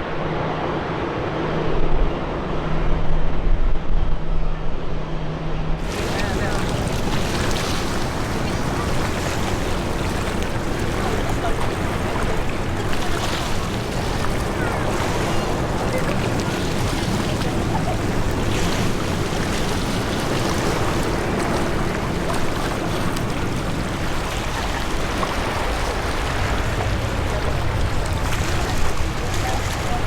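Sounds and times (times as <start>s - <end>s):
wind buffeting microphone: 5.8s - 30.0s.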